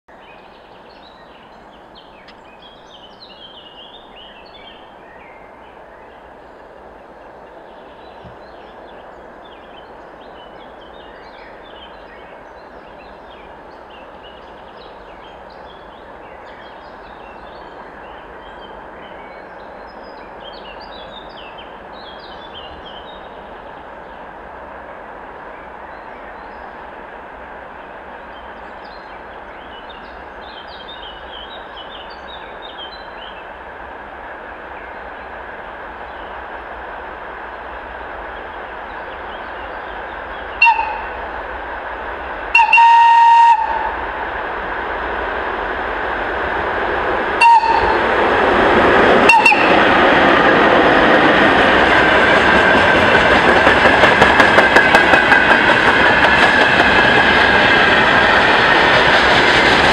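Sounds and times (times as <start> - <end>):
freight train rumble and hiss: 0.2 - 59.9.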